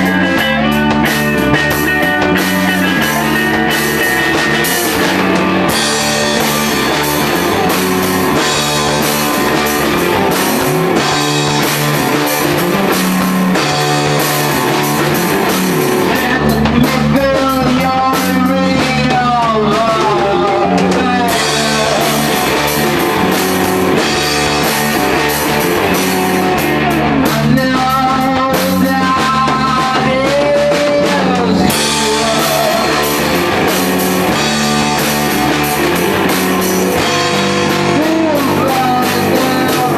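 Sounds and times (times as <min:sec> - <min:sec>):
gliding lead guitar line: 0:00.0 - 0:39.9
rock band playing: 0:00.0 - 0:39.9.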